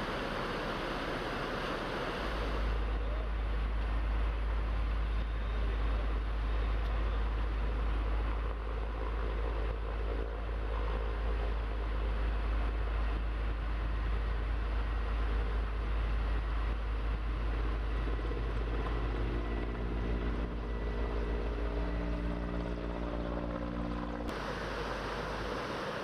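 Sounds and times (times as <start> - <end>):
engine running with low rumble: 0.0 - 26.0
steady humming engine tone: 0.0 - 26.0.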